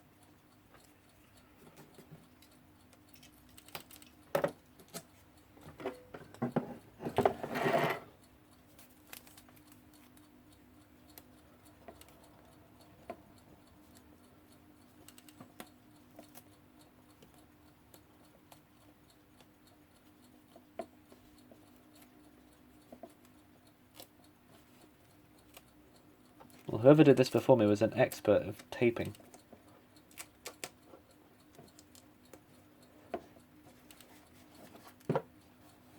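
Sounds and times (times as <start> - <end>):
faint steady hum: 0.0 - 35.9
small clicks and taps: 0.2 - 7.4, 8.5 - 35.9.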